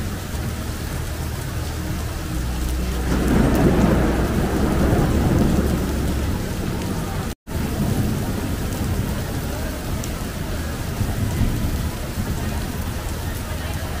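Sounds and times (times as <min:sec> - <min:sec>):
heavy rain: 0:00.0 - 0:14.0
low thunder roll: 0:00.0 - 0:14.0.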